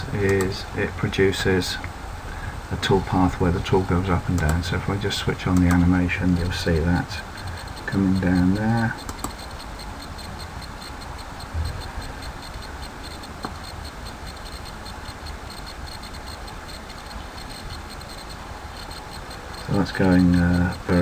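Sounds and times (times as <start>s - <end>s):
faint fast ticking: 0.0s - 21.0s
steady hiss: 0.0s - 21.0s.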